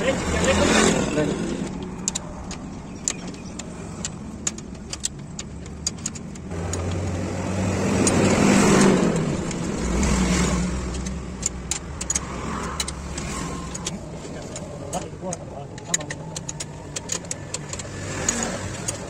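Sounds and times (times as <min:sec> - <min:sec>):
vehicle engine hum: 0:00.0 - 0:19.0
spanner clicks and taps on metal: 0:01.7 - 0:07.2, 0:07.8 - 0:19.0.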